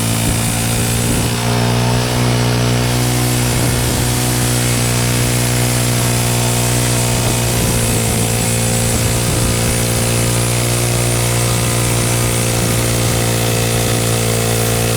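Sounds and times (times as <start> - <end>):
band sawmill cutting a log: 0.0 - 14.9.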